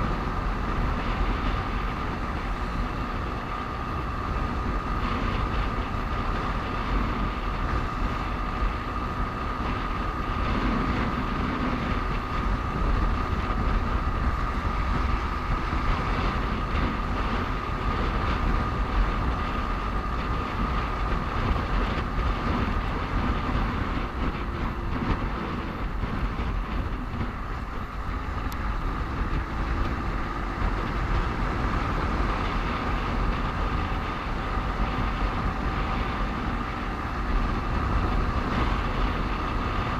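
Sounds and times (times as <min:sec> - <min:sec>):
motorcycle road and engine noise: 0:00.0 - 0:39.9
wind rumble on microphone: 0:00.0 - 0:39.9.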